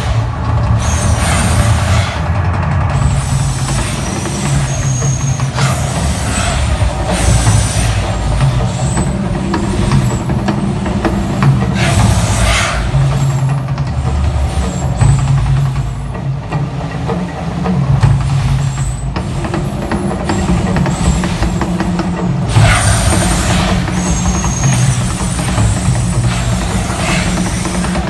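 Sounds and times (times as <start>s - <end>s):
deep steady rumble: 0.0s - 28.0s
gas fire jets hissing whooshes: 0.0s - 28.0s.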